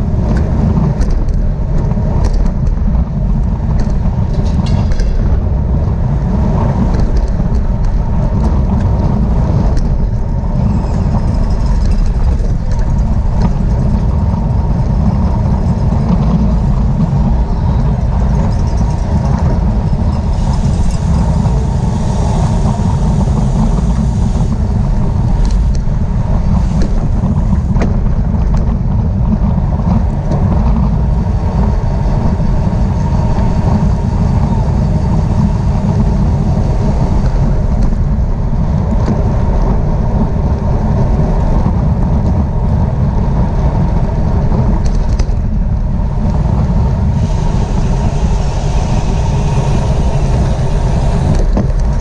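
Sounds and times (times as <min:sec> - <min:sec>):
wind rush on microphone: 0:00.0 - 0:52.0.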